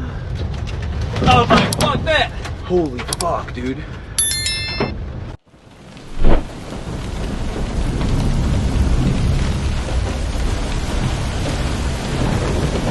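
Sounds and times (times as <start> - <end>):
wind and rain rushing: 0.0 - 4.2, 5.0 - 12.9.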